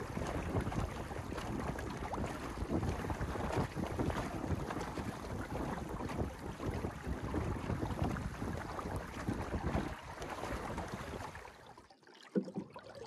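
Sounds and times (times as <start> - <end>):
wind buffeting microphone: 0.0 - 11.5
water splashing along boat hull: 0.0 - 13.0.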